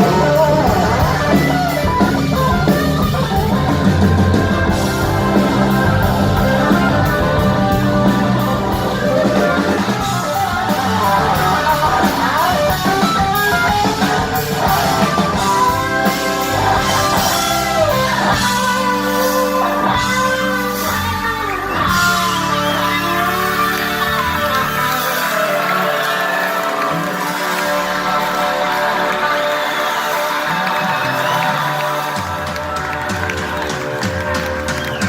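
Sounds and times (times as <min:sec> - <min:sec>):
bass: 0:00.0 - 0:35.0
drums with cymbal hits: 0:00.0 - 0:35.0
electric guitar bending notes: 0:00.0 - 0:35.0.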